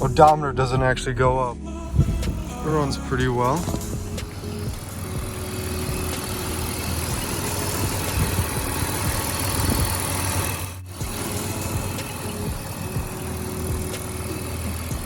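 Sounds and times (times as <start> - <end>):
car engine idling: 1.7 - 15.0.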